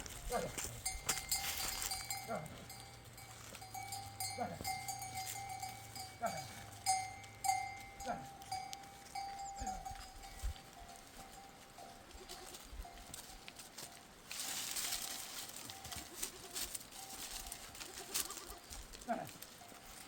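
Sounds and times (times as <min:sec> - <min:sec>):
animal bells clinking: 0:00.0 - 0:20.0.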